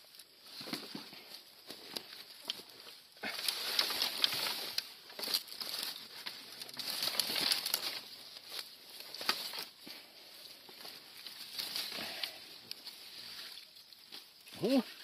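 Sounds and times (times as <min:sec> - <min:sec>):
twigs clicking: 0:00.0 - 0:14.8
dry branches and grass rustling: 0:00.0 - 0:15.0.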